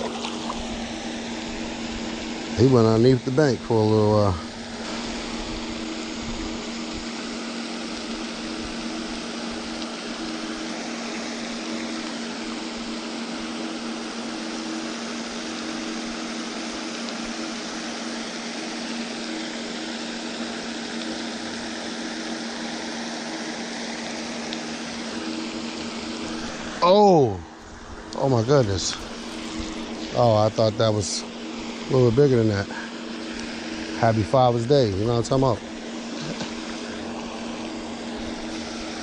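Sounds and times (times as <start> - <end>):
constant low hum: 0.0 - 39.0.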